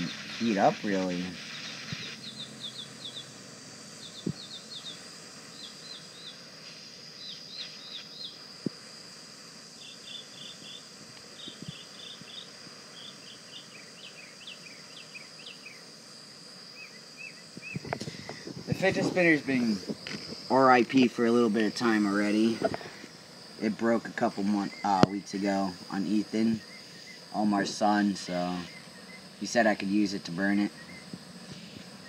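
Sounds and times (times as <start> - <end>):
small birds chirping: 0.0 - 8.8, 9.7 - 32.0
torch flame hissing: 0.0 - 32.0.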